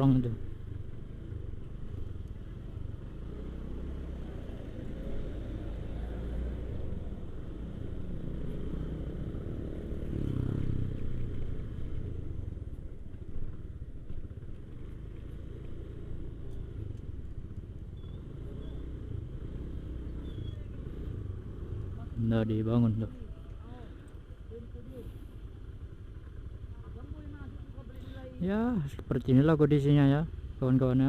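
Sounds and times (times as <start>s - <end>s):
motorcycle engine rumbling: 0.0s - 31.0s.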